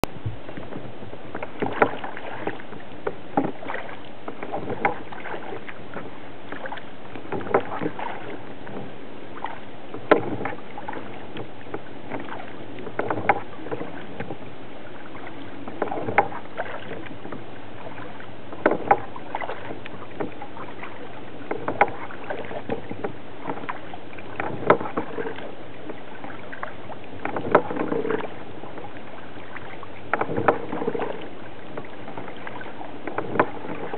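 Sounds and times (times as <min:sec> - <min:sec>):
kayak paddle splashing in water: 0:00.0 - 0:33.9.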